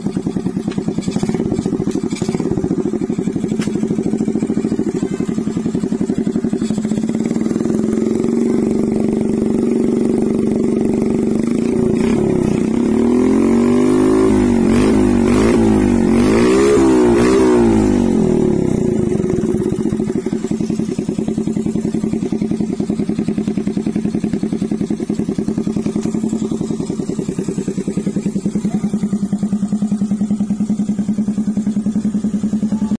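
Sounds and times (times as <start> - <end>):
motorcycle engine revving and idling: 0.0 - 32.9.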